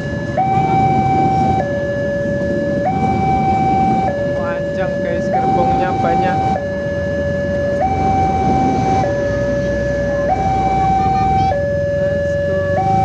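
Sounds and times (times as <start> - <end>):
low rumble: 0.0 - 12.8
two-tone electronic siren: 0.0 - 13.0.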